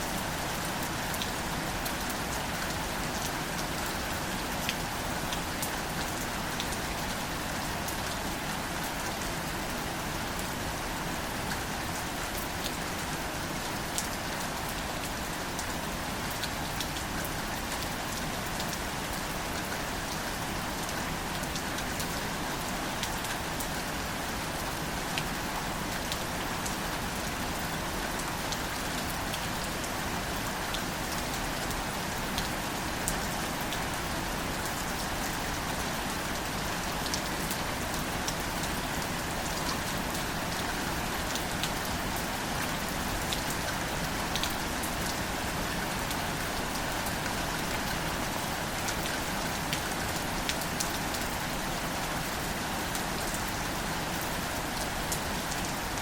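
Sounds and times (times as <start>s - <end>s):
rain falling on plants: 0.0s - 56.0s.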